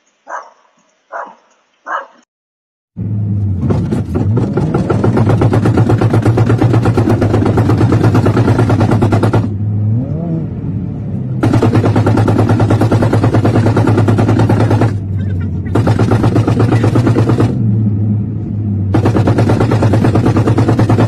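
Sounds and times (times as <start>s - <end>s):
car engine with rapid rattle: 3.0s - 21.0s.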